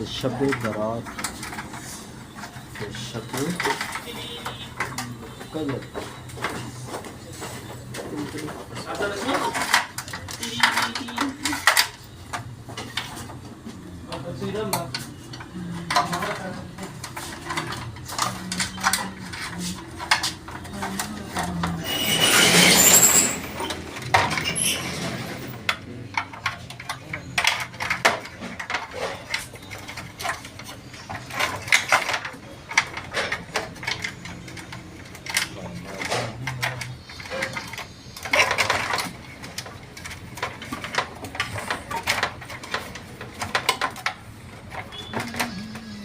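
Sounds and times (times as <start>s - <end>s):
metal tools clinking and knocking: 0.0s - 13.5s, 14.1s - 46.0s.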